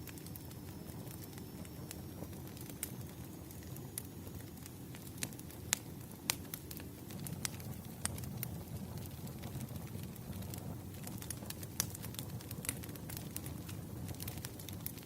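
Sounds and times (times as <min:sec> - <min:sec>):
burning wood rumbling: 0:00.0 - 0:15.0
fire popping and snapping: 0:00.0 - 0:15.0.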